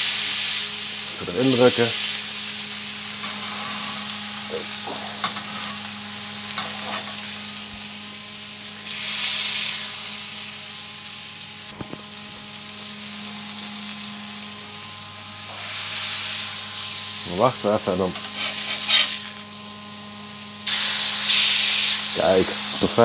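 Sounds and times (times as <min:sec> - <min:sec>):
patties sizzling on griddle: 0:00.0 - 0:23.0.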